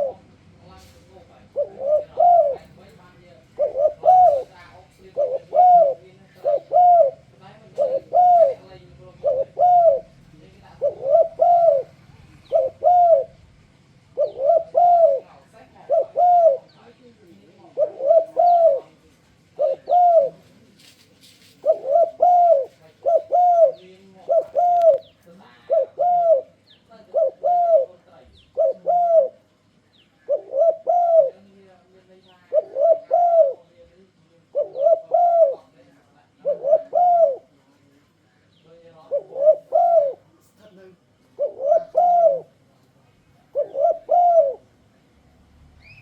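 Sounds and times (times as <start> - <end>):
dove cooing: 0.0 - 29.6, 30.2 - 31.7, 32.3 - 33.8, 34.4 - 37.7, 38.9 - 40.5, 41.3 - 42.6, 43.4 - 44.8.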